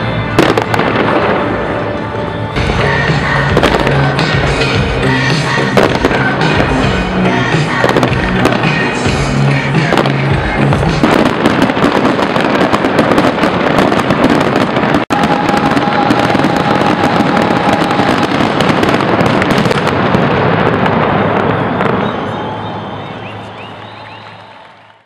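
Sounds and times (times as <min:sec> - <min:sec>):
fireworks bangs and crackling: 0:00.0 - 0:24.7.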